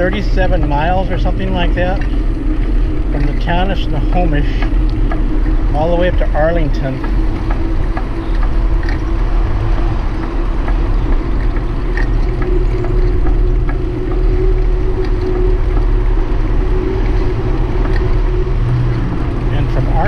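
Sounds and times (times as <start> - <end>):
faint steady hum: 0.0 - 20.0
tyre noise on asphalt: 0.0 - 20.0
wind buffeting microphone: 0.0 - 20.0
light ticks: 1.8 - 19.0.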